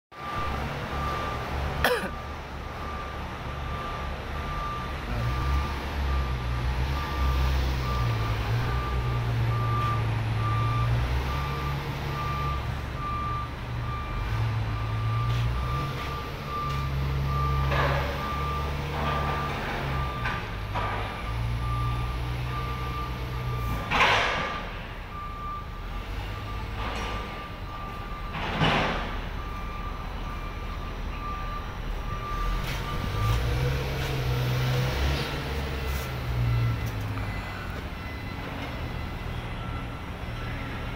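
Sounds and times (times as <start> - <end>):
reversing alarm beeping: 0.1 - 40.9
heavy diesel machinery rumble: 0.2 - 40.9.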